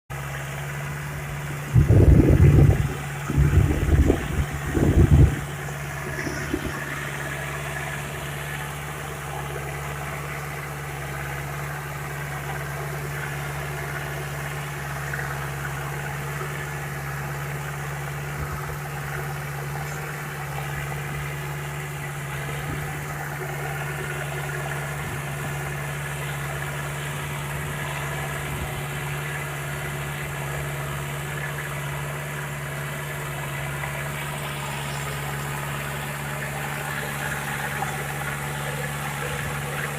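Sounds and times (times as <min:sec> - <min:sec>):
tractor diesel engine idling: 0:00.1 - 0:39.9.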